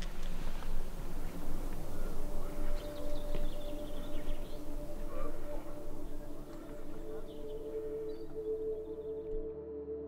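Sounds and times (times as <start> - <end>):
ambient music with held tones: 0.0 - 10.0.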